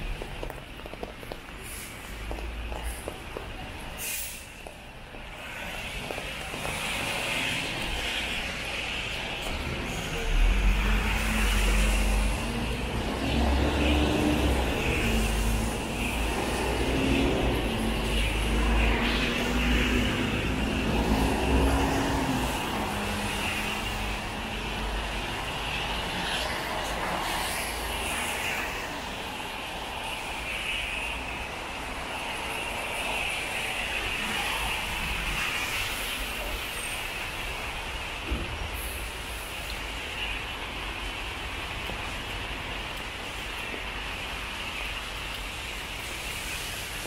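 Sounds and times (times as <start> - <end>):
traffic on wet road: 0.0 - 47.0.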